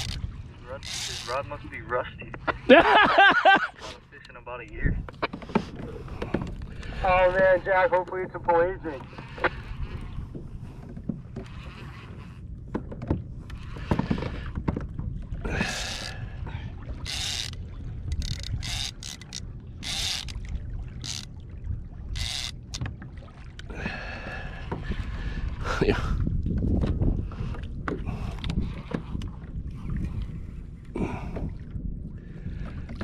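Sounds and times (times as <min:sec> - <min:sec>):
wind rumble on microphone: 0:04.6 - 0:33.0
water slapping against kayak hull: 0:04.8 - 0:33.0.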